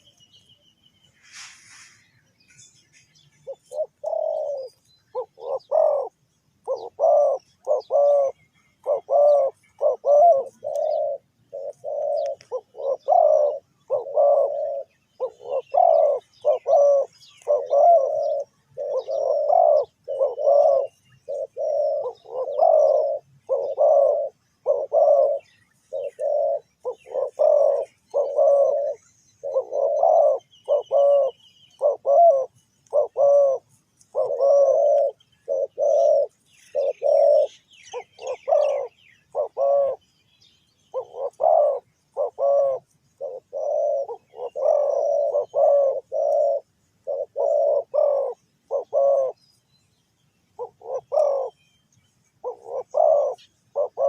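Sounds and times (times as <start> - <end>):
dove cooing: 0.0 - 0.6, 1.5 - 49.7, 50.5 - 51.6, 52.2 - 54.0.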